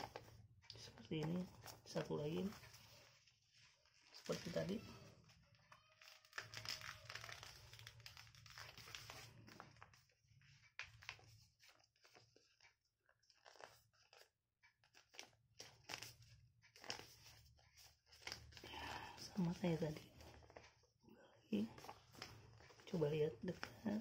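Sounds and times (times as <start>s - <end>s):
paper crackling as folded: 0.0s - 20.9s, 21.6s - 24.0s
paper rustling and crinkling: 0.0s - 20.9s, 21.6s - 24.0s.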